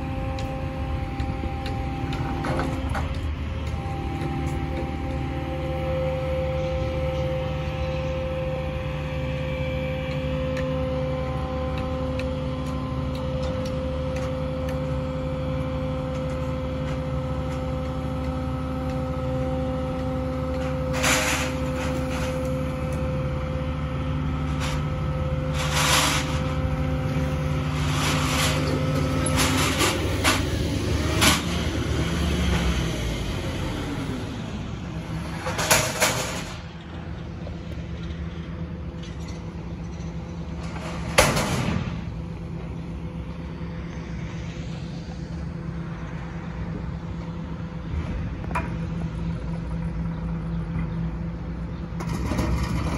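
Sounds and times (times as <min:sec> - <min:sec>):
crane engine running: 0:00.0 - 0:52.9.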